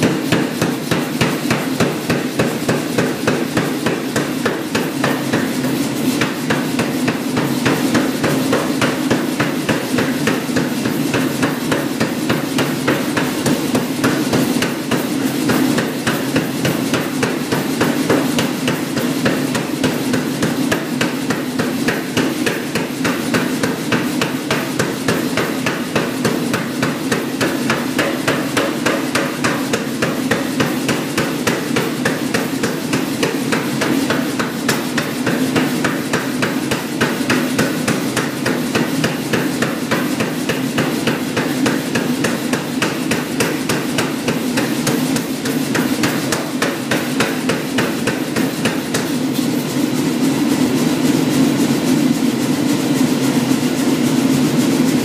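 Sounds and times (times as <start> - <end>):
hammer blows on hot iron: 0.0 - 49.6.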